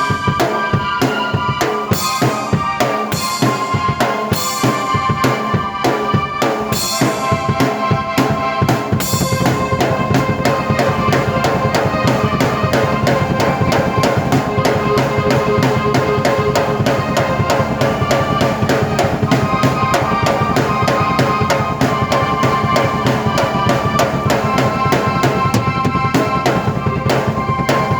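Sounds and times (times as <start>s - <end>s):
drum kit beat: 0.0s - 27.9s
sustained keyboard notes: 0.0s - 27.9s.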